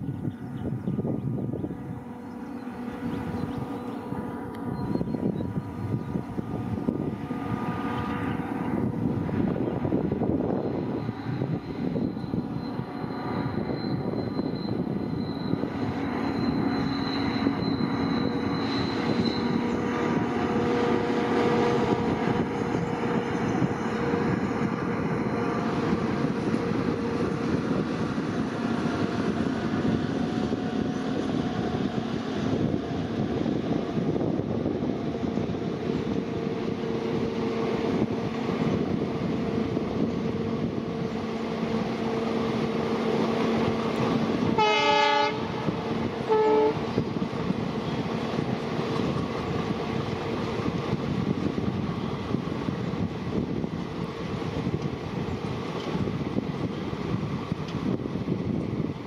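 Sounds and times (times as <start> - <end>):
diesel locomotive engines droning: 0.0 - 59.0.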